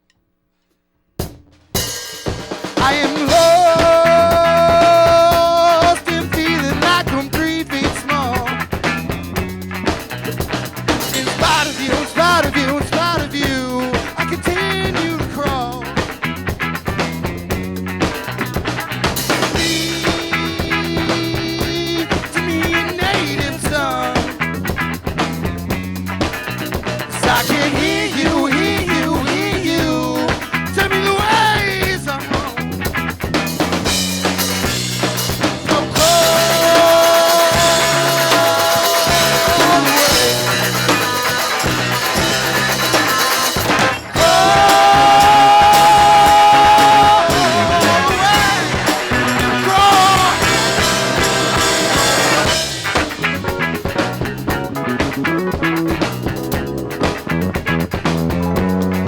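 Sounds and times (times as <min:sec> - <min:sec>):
live rock band playing: 0:01.7 - 0:59.0
high lead guitar notes: 0:01.8 - 0:59.0.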